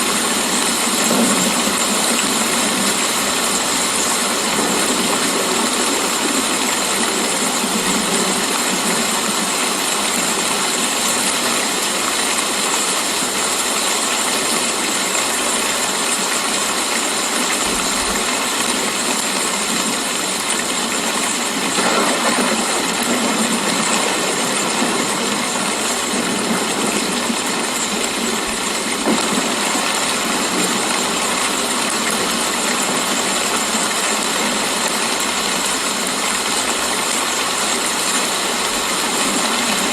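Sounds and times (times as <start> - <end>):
rain spatter: 0.0 - 39.9
steady rain hiss: 0.0 - 39.9.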